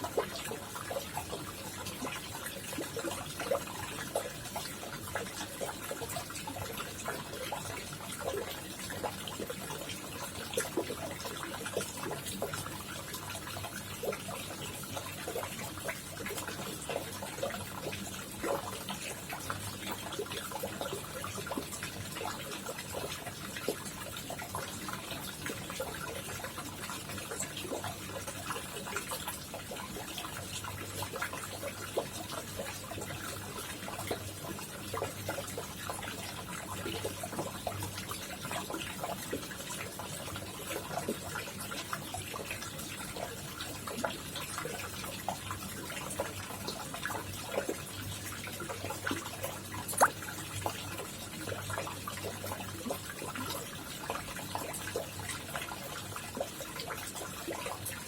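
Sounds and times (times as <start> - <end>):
pond water trickling and splashing: 0.0 - 58.0
water drips and plops: 0.0 - 58.0.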